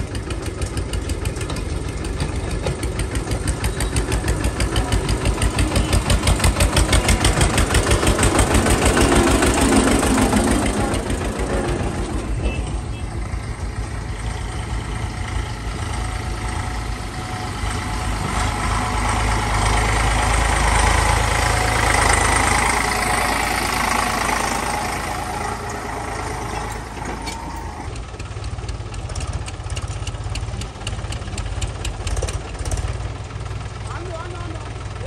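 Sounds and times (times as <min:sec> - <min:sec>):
engine with rapid clicking clatter: 0:00.0 - 0:16.7, 0:18.2 - 0:35.0
tractor diesel engine passing: 0:00.0 - 0:35.0.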